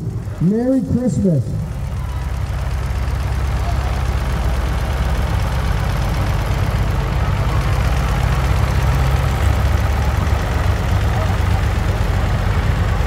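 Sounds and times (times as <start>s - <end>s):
tractor engine running slowly: 0.0s - 13.0s.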